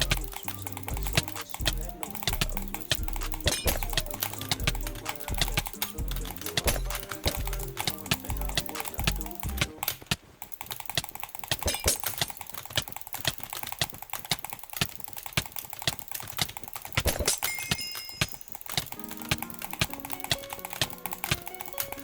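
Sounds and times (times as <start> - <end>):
rapid irregular clicking: 0.0 - 22.0.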